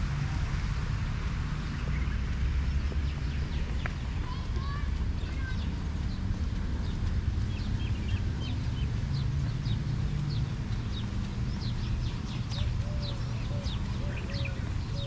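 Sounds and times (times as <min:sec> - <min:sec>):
steady low rumble: 0:00.0 - 0:15.0
small birds chirping: 0:01.2 - 0:15.0.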